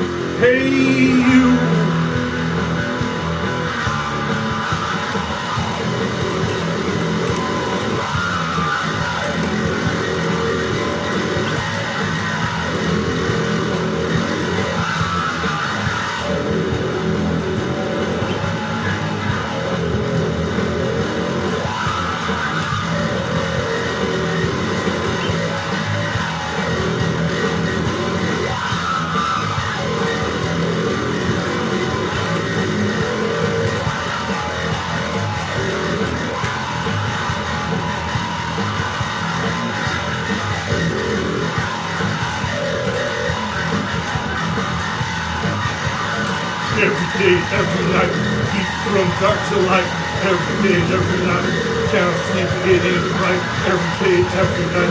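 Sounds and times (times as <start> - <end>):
instrumental rock music: 0.0 - 54.9.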